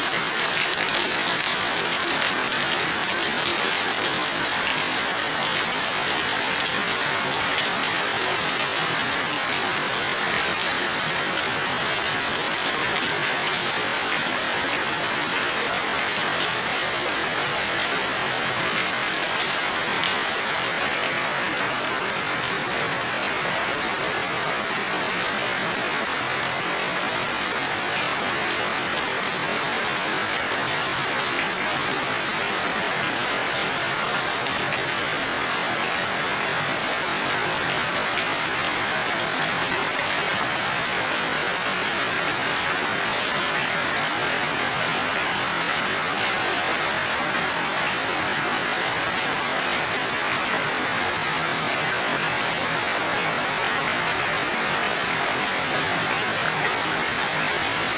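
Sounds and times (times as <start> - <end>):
heavy rain on foliage and pavement: 0.0 - 57.9.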